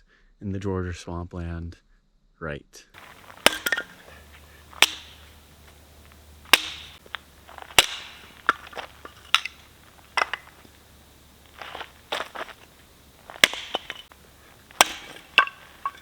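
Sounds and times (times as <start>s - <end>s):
firewood being chopped: 3.0s - 16.0s.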